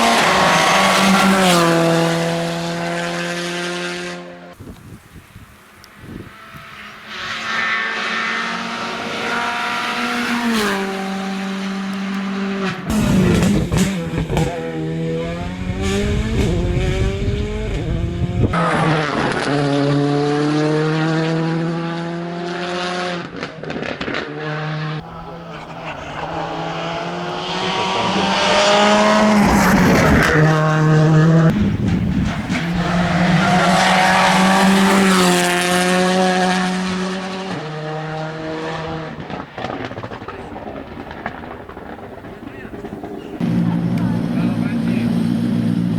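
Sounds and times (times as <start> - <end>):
rally car engines revving: 0.0 - 4.6, 5.7 - 45.9.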